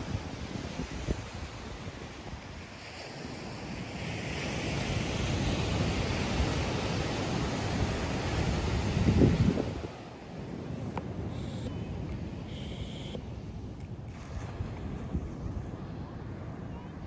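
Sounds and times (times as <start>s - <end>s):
wind buffeting microphone: 0.0s - 12.6s, 13.2s - 17.0s
ocean surf breaking on beach: 0.0s - 17.0s.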